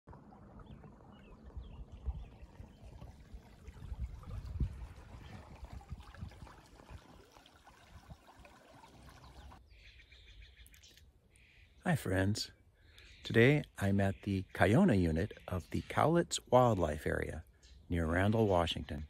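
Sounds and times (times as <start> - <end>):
creek water trickling: 0.1 - 19.0.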